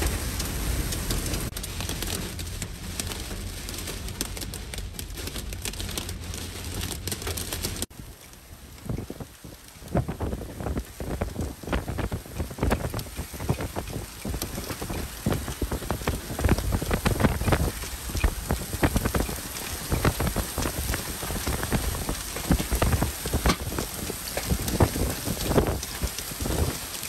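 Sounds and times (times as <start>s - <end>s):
torrential rain: 0.0s - 27.0s.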